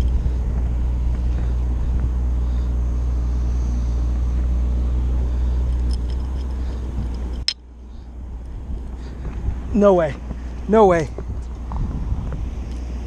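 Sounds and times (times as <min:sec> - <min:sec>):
low rumble with faint hum: 0:00.0 - 0:13.0.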